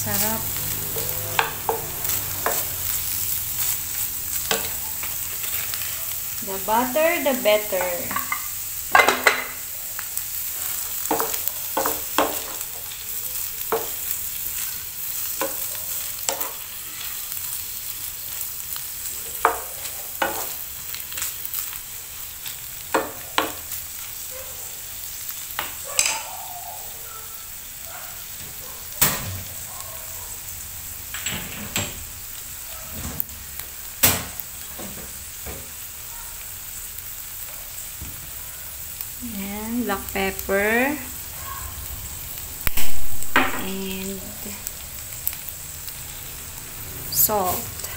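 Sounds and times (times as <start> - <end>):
chicken sizzling in a frying pan: 0.0 - 47.9.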